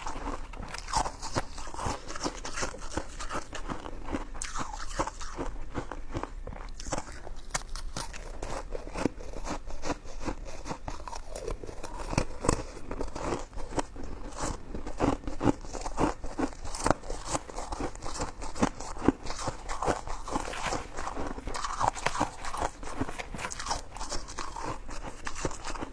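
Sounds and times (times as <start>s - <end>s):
chewing with mouth clicks and smacks: 0.0s - 25.9s.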